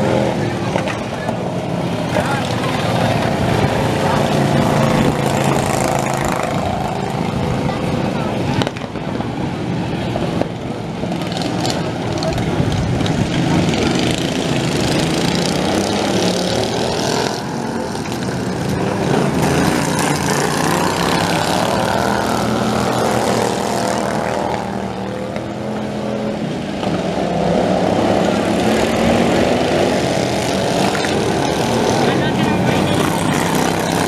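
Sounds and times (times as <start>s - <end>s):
small engines racing: 0.0s - 34.0s.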